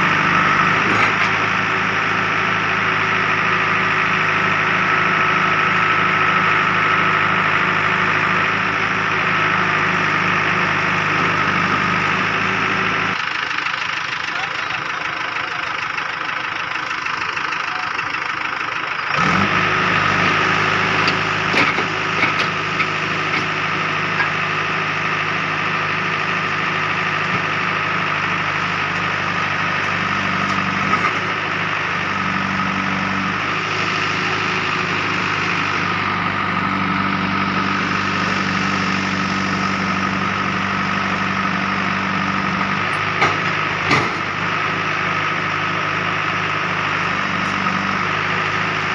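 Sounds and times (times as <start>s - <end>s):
diesel machinery engines idling: 0.0s - 48.9s.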